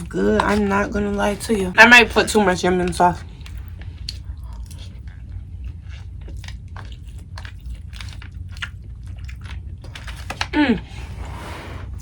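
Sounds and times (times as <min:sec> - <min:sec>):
chewing and crunching food: 0:00.0 - 0:10.7.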